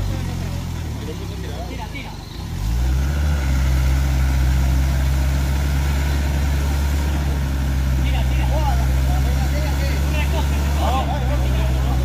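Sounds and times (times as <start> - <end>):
engine running low drone: 0.0 - 12.0.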